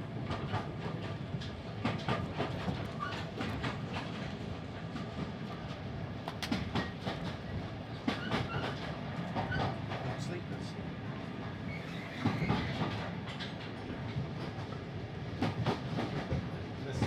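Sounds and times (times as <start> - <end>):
railway carriage rumbling: 0.0 - 17.0.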